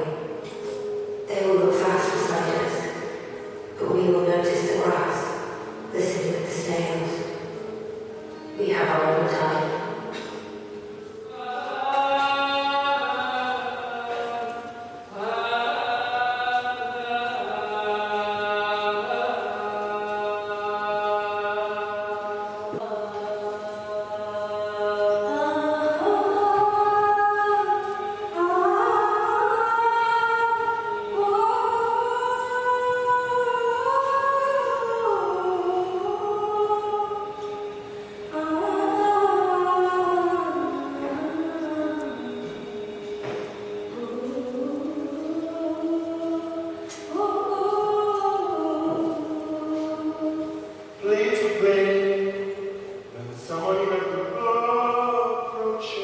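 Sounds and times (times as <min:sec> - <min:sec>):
choir singing held notes: 0:00.0 - 0:56.0.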